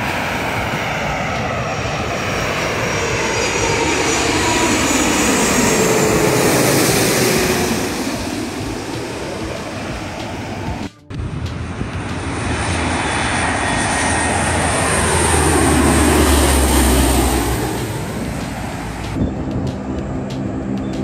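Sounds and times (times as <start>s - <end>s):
turboprop plane flying overhead: 0.0s - 21.0s
whoosh of plane passing: 0.0s - 21.0s.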